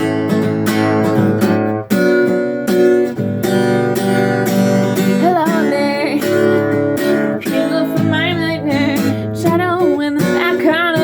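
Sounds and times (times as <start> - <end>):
strummed chords: 0.0 - 11.0.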